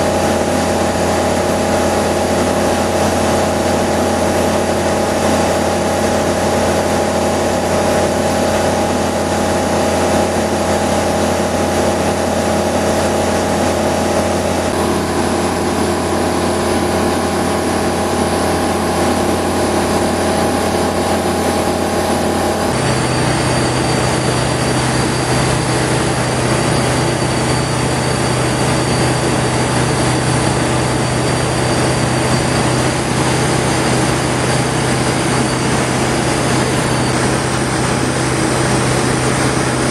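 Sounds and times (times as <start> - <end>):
light aircraft engine drone in cabin: 0.0 - 39.9.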